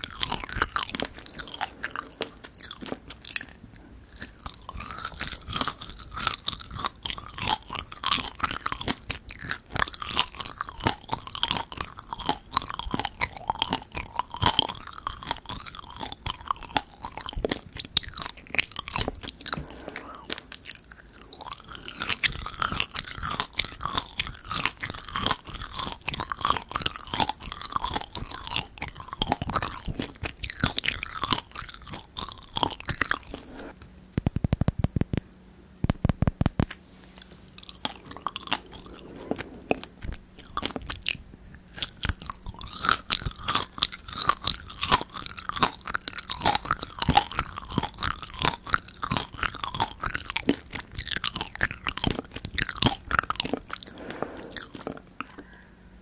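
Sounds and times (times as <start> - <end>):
chewing dried figs: 0.0 - 33.8, 36.4 - 55.8.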